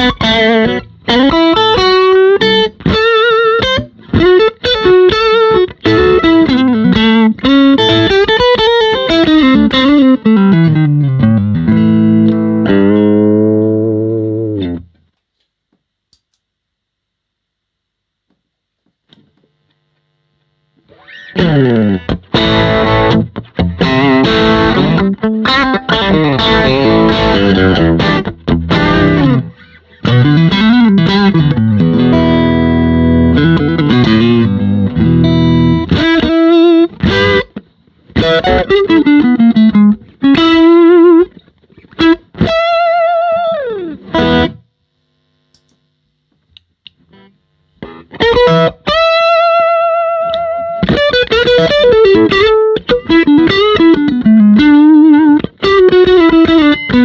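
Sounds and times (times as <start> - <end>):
overdriven electric guitar: 0.0 - 15.2, 19.1 - 57.0.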